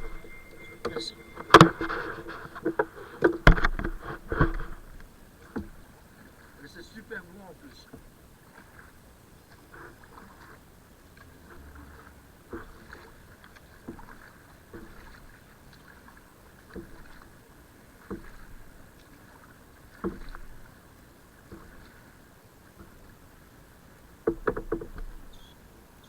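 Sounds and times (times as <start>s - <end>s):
faint water and wind: 0.0s - 26.0s
paddle splashing: 0.0s - 26.0s.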